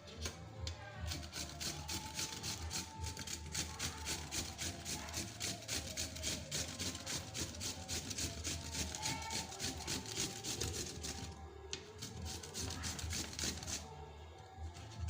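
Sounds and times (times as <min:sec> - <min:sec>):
radish being grated by hand: 0:01.1 - 0:11.4, 0:12.0 - 0:13.9.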